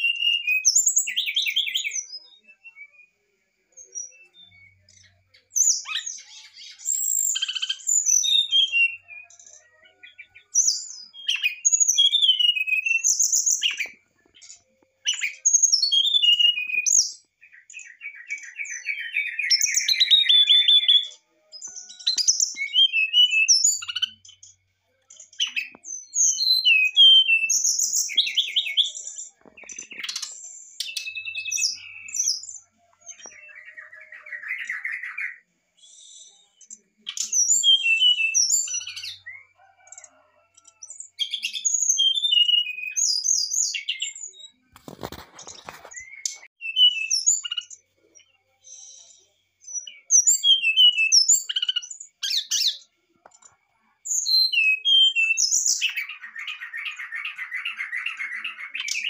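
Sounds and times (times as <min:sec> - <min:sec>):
bird singing whistles and chatter: 0:00.0 - 0:52.9, 0:54.0 - 0:59.0.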